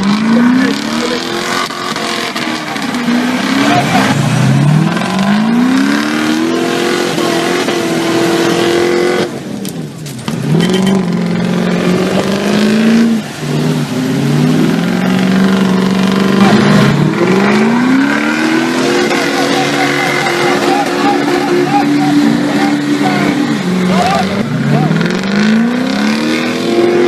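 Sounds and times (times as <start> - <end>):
car engine revving loudly: 0.0 - 9.6, 10.3 - 27.0.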